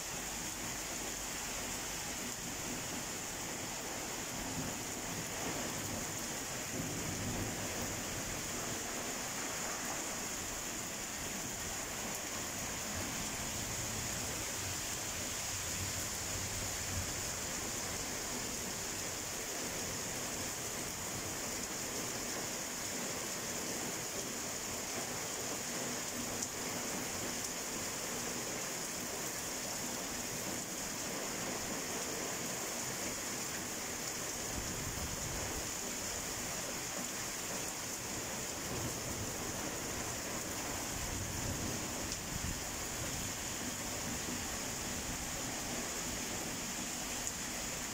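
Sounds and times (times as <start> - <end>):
rain pouring: 0.0 - 47.9.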